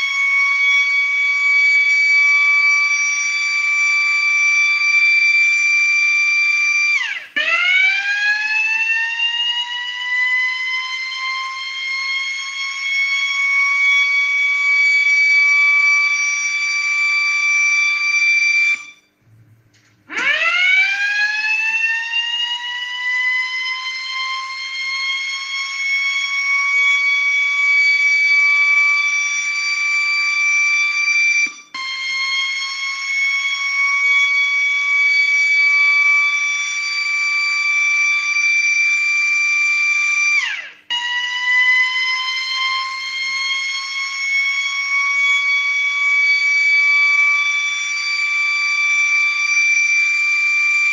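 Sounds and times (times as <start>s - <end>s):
electric motor siren wailing: 0.0s - 19.1s, 20.1s - 50.9s.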